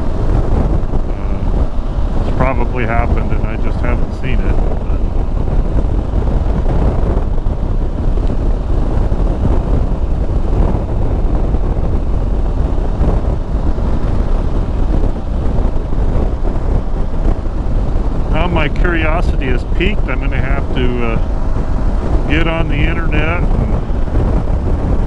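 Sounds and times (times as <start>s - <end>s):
motorcycle engine cruising: 0.0s - 25.0s
wind buffeting microphone: 0.0s - 25.0s.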